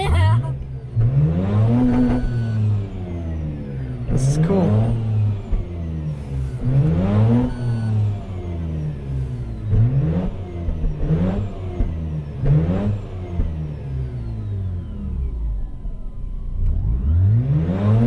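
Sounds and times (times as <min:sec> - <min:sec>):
rotary engine revving: 0:00.0 - 0:15.8, 0:16.6 - 0:18.0.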